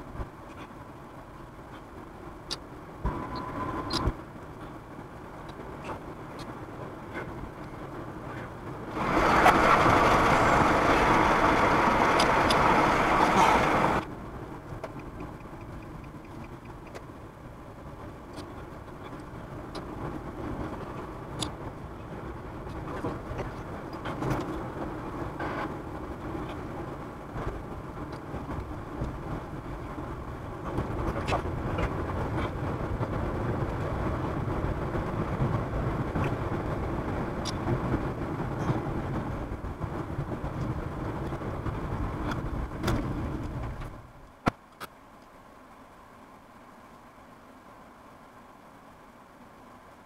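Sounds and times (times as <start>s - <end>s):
car cabin road and engine noise: 0.0s - 50.0s.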